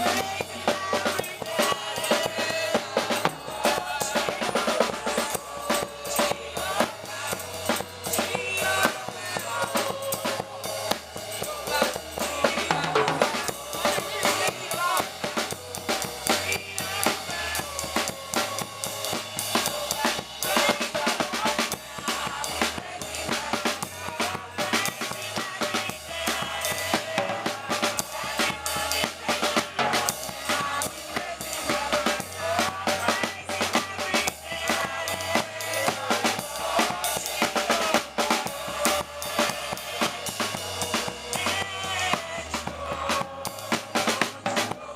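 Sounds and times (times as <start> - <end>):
bass line: 0.0 - 44.9
drum kit beat: 0.0 - 44.9
gospel band music: 0.0 - 44.9.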